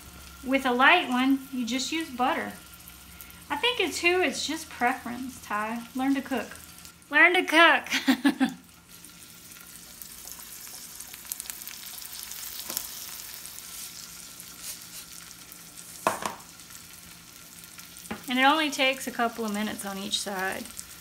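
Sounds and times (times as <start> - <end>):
fish fillets sizzling in pan: 0.0 - 21.0.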